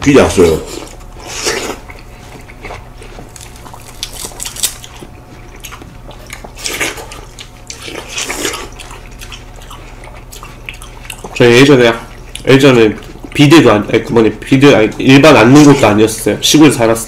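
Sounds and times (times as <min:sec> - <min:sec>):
wet juicy eating sounds: 0:00.3 - 0:17.0.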